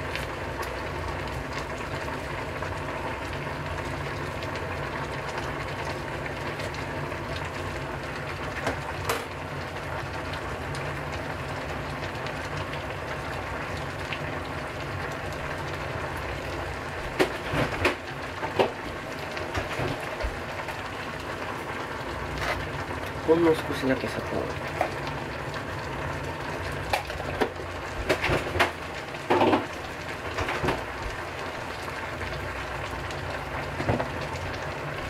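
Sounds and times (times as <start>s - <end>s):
pot simmering with bubbling hiss: 0.0s - 35.0s.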